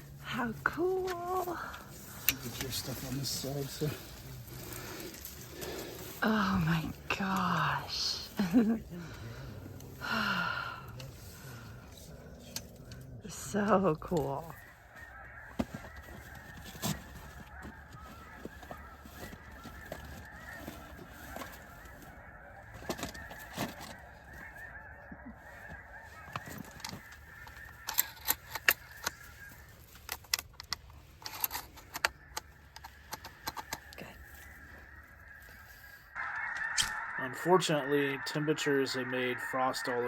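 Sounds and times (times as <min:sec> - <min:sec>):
geese honking: 0:00.0 - 0:40.0.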